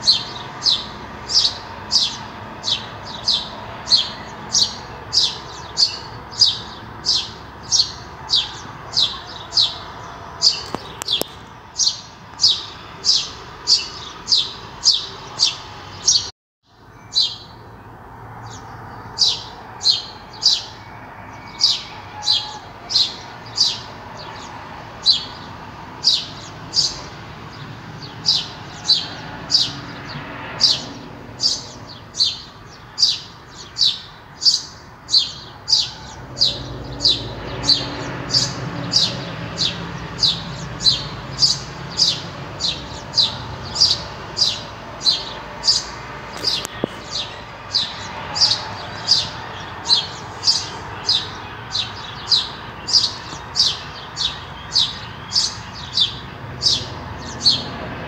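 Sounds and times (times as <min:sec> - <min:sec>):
bird chirping: 0:00.0 - 0:57.9.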